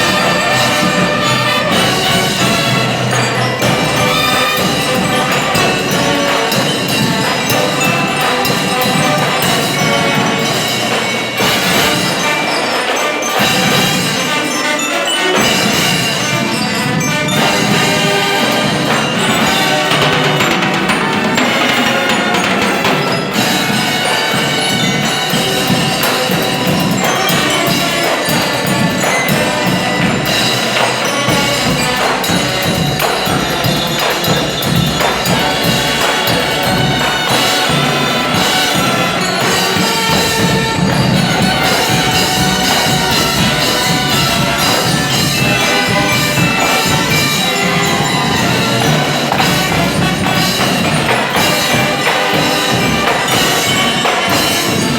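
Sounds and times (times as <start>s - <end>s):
loud rhythmic percussion music: 0.0s - 54.9s
ringing mallet tones: 0.0s - 54.9s.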